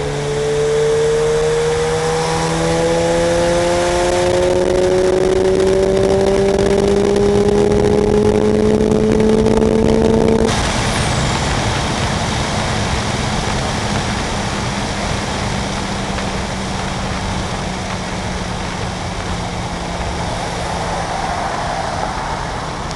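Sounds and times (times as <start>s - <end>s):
rotary engine at full throttle: 0.0s - 22.9s
wind and road noise: 0.0s - 22.9s.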